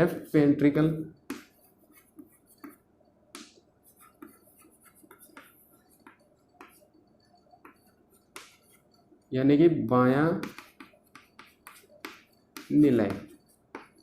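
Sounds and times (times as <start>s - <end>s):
pen scratching on surface: 1.2s - 9.2s, 10.4s - 14.0s.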